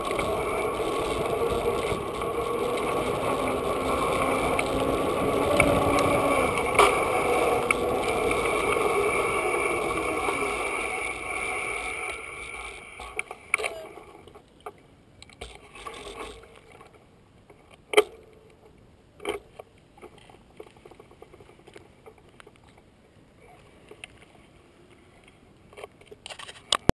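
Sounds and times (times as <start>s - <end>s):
bike clicks and rattles: 0.0s - 22.9s, 25.2s - 26.9s
tyre and wind noise: 0.0s - 26.9s.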